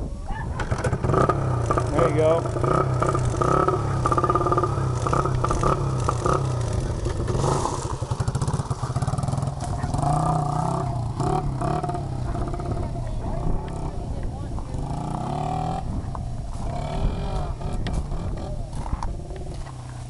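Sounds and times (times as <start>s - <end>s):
dirt bike engine revving: 0.6s - 20.0s.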